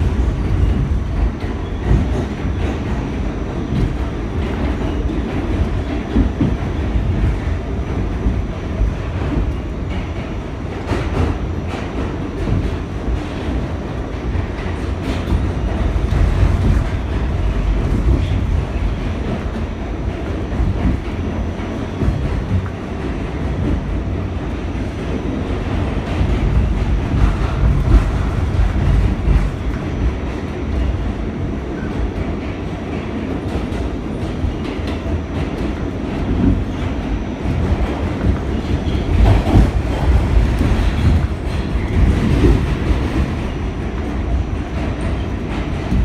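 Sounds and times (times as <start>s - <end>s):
subway wheels rumbling on rail: 0.0s - 46.0s
track clickety-clack: 0.0s - 46.0s.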